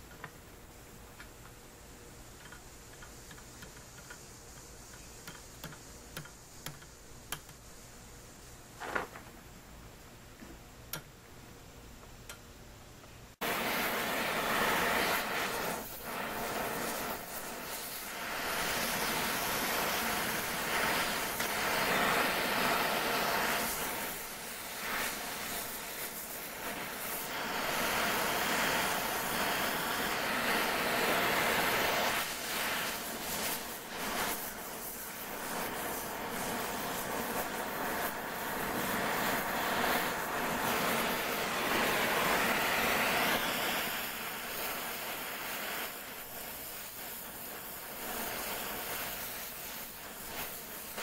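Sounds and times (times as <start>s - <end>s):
welding torch flame hissing: 0.0s - 9.5s, 13.3s - 51.0s.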